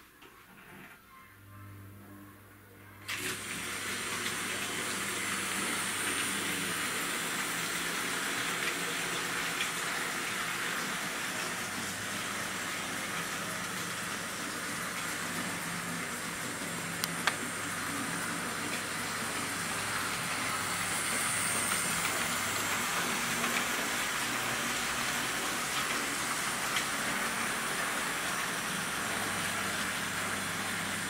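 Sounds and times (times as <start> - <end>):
model train motors whirring on rails: 3.1 - 31.0.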